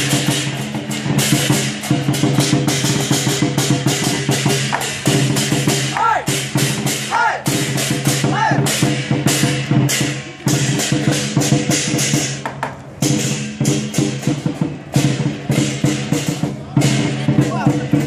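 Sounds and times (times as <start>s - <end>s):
drum and cymbals: 0.0s - 18.0s.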